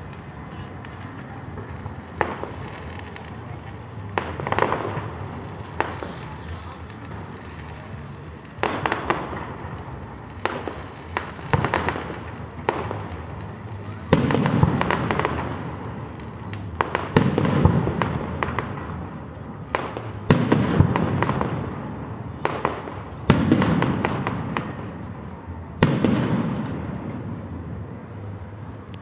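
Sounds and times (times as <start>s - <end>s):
fireworks bursting with sharp bangs: 0.0s - 28.9s
rumble and crackle: 0.0s - 29.0s.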